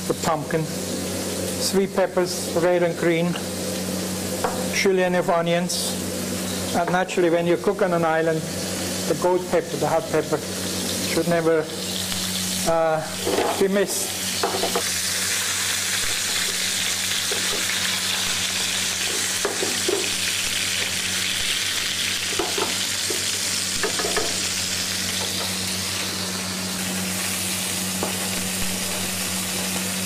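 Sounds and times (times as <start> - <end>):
fish frying in oil: 5.9 - 30.0.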